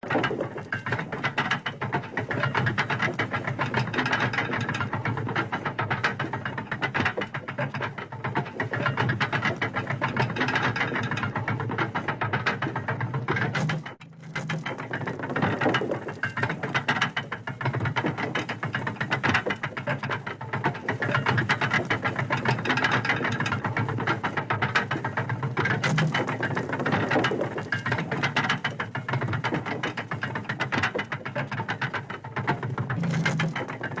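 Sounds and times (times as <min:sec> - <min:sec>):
turntable mechanical clatter: 0:00.0 - 0:34.0.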